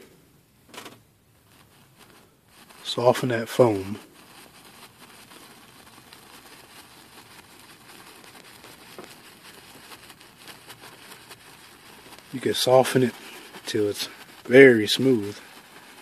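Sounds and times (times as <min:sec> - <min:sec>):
bristle brush scratching on canvas: 0:01.3 - 0:16.0.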